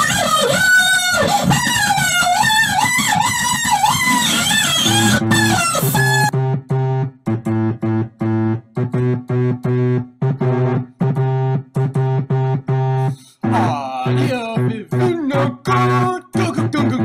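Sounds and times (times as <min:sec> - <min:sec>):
choppy keyboard chords: 0:01.4 - 0:17.0.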